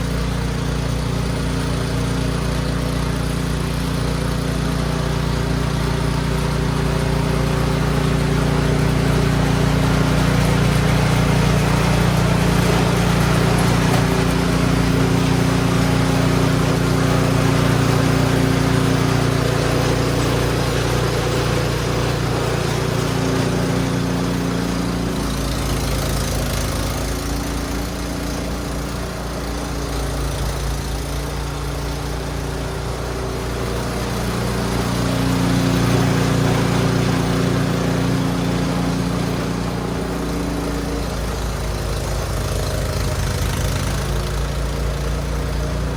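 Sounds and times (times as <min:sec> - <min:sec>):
snow blower engine running: 0:00.0 - 0:45.9.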